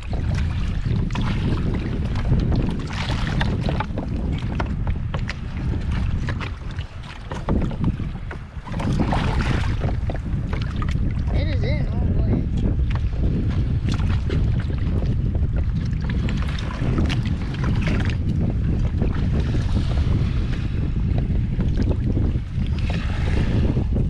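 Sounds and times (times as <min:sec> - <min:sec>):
water slapping against hull: 0:00.0 - 0:24.0
wind buffeting microphone: 0:00.0 - 0:24.0.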